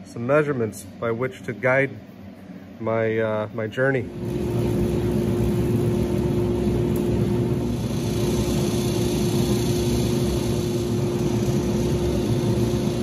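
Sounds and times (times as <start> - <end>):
machine motor humming: 1.9 - 13.0.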